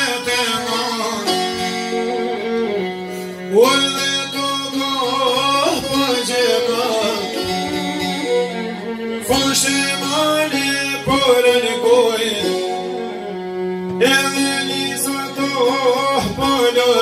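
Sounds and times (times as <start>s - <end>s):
man singing: 0.0s - 2.8s, 3.4s - 13.2s, 13.8s - 17.0s
bowed violin: 0.0s - 17.0s
plucked long-necked lutes: 0.0s - 17.0s.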